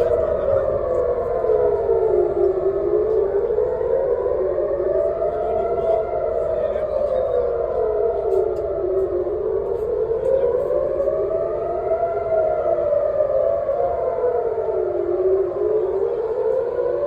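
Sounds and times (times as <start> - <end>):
civil defense siren wailing: 0.0 - 17.0.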